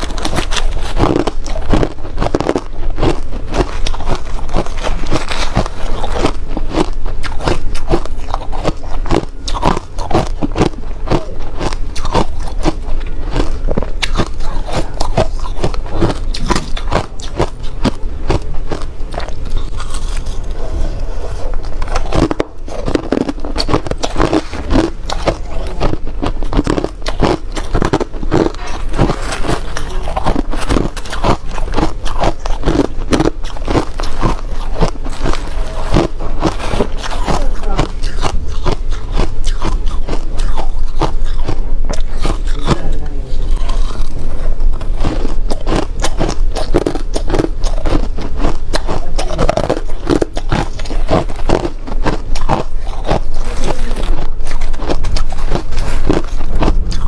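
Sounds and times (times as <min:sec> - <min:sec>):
crunching ice being chewed: 0:00.0 - 0:57.0.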